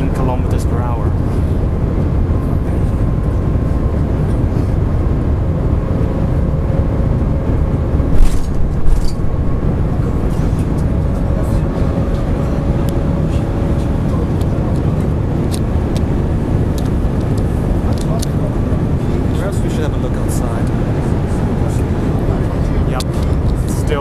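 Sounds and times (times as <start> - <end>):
train carriage rumble and rushing: 0.0 - 24.0.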